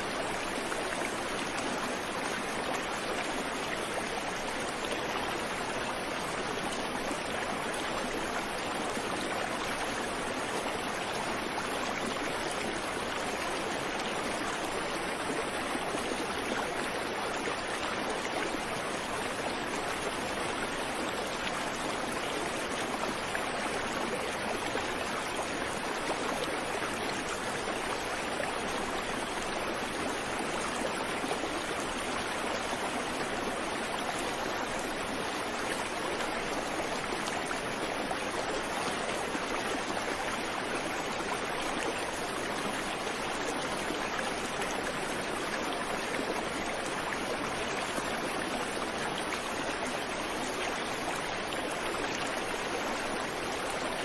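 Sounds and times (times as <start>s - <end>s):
creek flowing over rocks: 0.0s - 54.0s.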